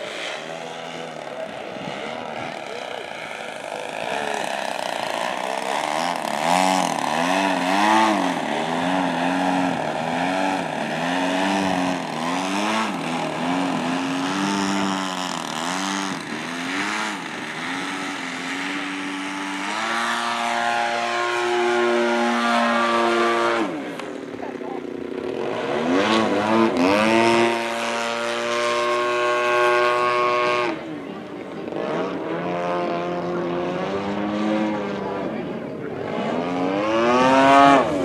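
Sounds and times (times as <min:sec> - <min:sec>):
model plane engine revving: 0:00.0 - 0:38.0.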